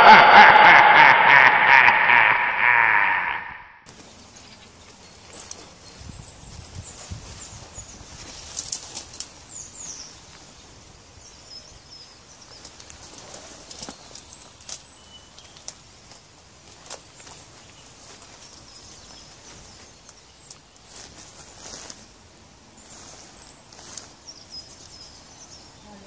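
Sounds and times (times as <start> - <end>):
small birds chirping: 3.9 - 26.0.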